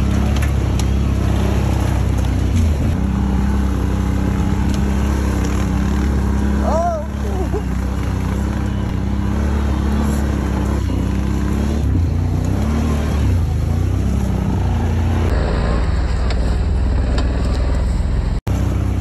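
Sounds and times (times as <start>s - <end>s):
atv engines running: 0.0s - 19.0s.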